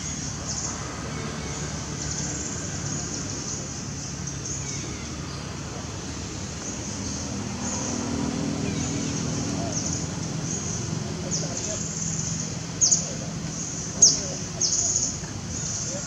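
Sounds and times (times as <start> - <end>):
low rumble of distant traffic: 0.0 - 16.0.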